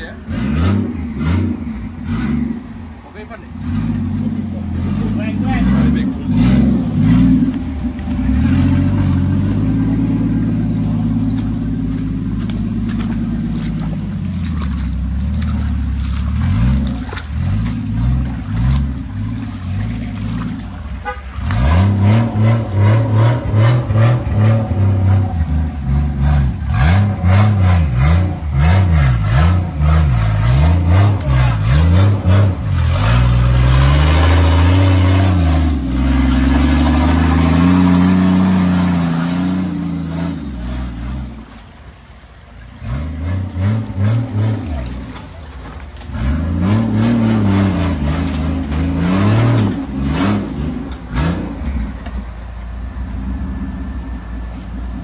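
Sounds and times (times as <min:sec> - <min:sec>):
engine revving under load: 0:00.0 - 0:52.4.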